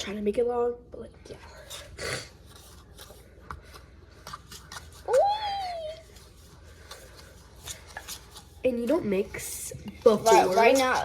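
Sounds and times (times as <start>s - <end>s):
utensil stirring slime in bowl: 1.6s - 11.0s.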